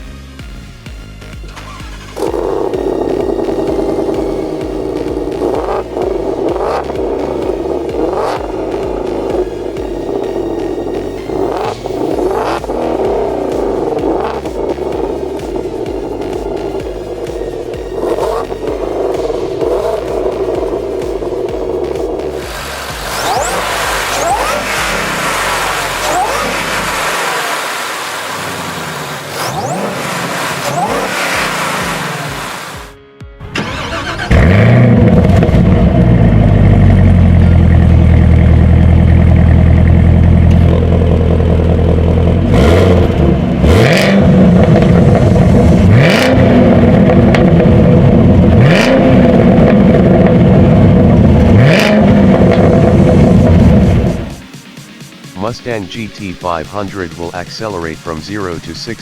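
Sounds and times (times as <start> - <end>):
deep engine idling and revving: 0.0 - 59.0
sports car engine revving: 1.3 - 33.0, 33.6 - 59.0.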